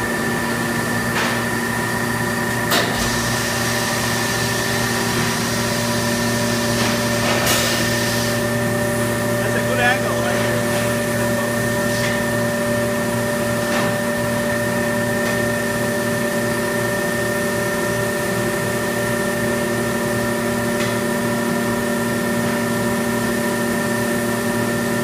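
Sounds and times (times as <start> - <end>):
machine humming and whining: 0.0 - 25.0.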